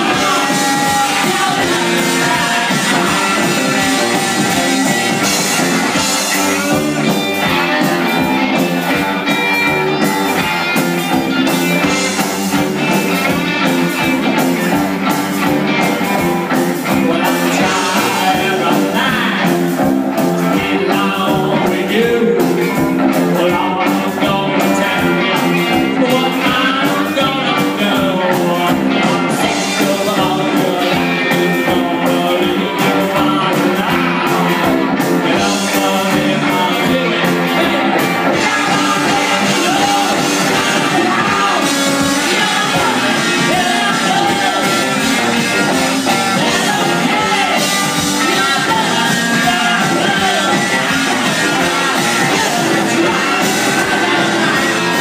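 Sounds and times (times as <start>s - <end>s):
drum kit beat: 0.0s - 55.0s
electric guitars: 0.0s - 55.0s
person singing: 0.0s - 55.0s.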